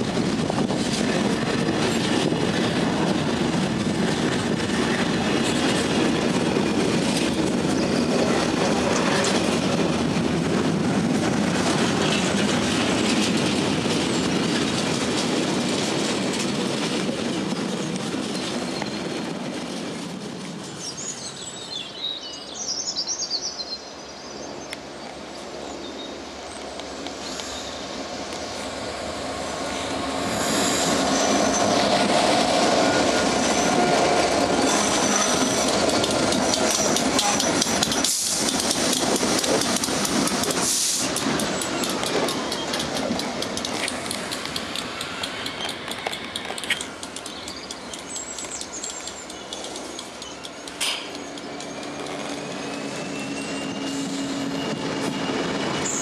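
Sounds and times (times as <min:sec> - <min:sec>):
freight train rumbling on rails: 0:00.0 - 0:56.0
train approaching: 0:00.0 - 0:56.0.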